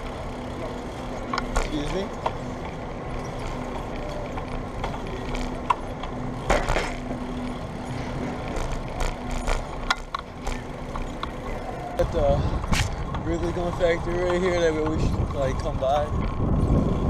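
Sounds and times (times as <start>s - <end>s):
low hum: 0.0s - 15.4s
traffic: 0.0s - 17.0s
wind and road noise: 0.0s - 17.0s.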